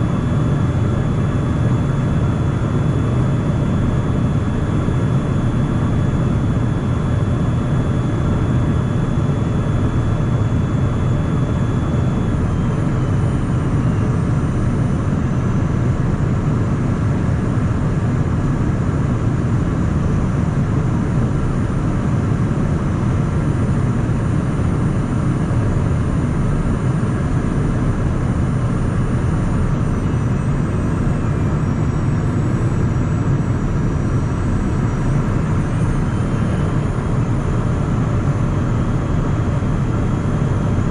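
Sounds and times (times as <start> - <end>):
aircraft cabin engine and airflow: 0.0 - 40.9.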